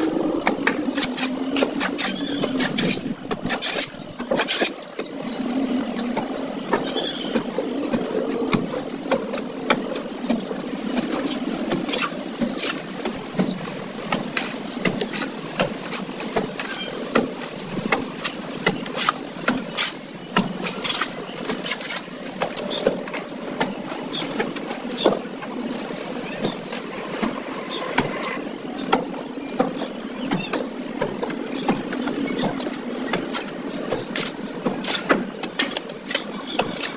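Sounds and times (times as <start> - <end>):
steady drone: 0.0 - 30.1.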